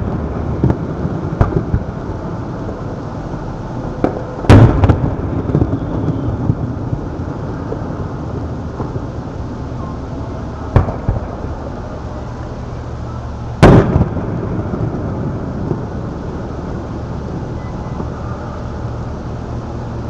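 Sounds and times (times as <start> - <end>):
firework crack: 0.0 - 20.0
fireworks booming: 0.0 - 20.0.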